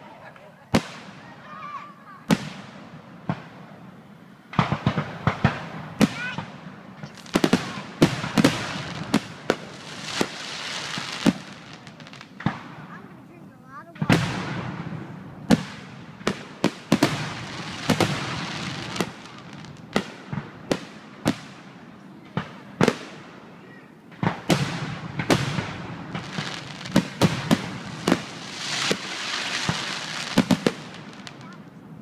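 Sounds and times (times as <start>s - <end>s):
fireworks bursting: 0.0s - 32.0s.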